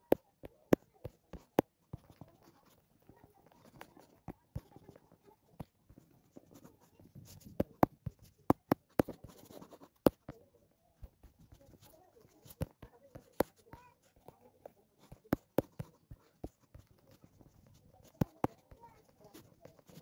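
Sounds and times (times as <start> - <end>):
fingertip tapping touchscreen: 0.0 - 20.0.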